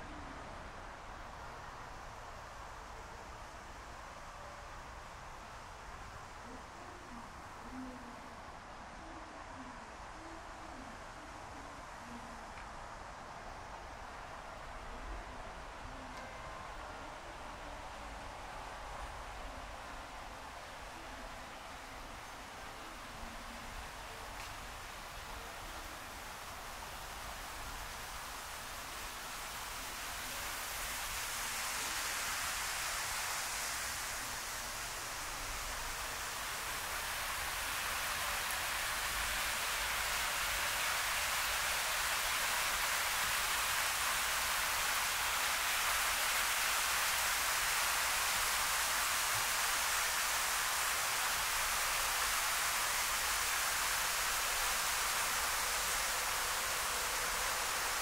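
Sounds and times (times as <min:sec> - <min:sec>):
steady rushing hiss: 0:00.0 - 0:58.0.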